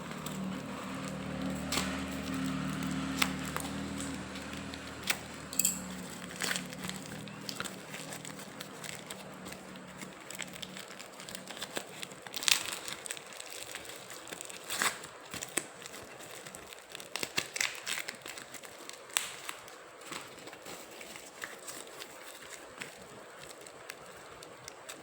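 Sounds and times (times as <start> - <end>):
packaging crinkling and tearing: 0.0 - 25.0.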